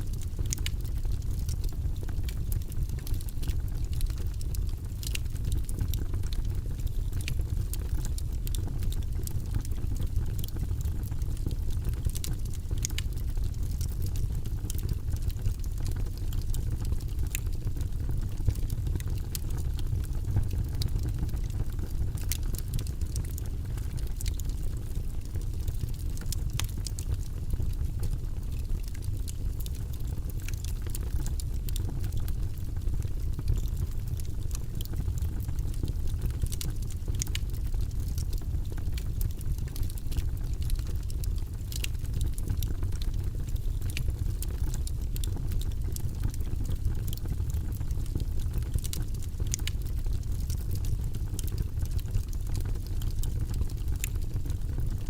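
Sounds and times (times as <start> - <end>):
low rumble of flames: 0.0 - 55.0
logs crackling and popping: 0.1 - 55.0.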